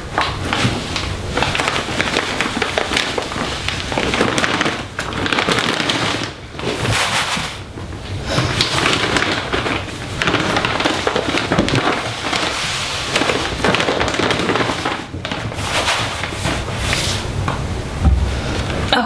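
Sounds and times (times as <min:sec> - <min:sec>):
cat litter pouring into plastic box: 0:00.2 - 0:07.6, 0:08.3 - 0:17.2.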